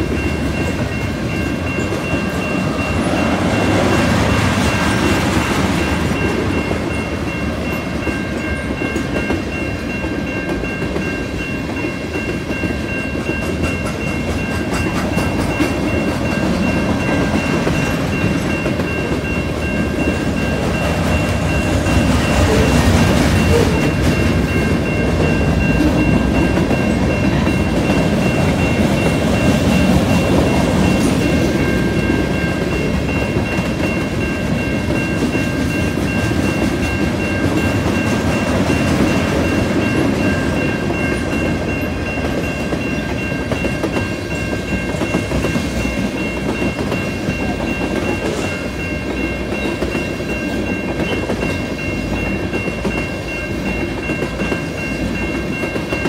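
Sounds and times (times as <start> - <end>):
crossing warning bell ringing: 0.0 - 56.0
freight train wheels rumbling on rails: 0.0 - 56.0.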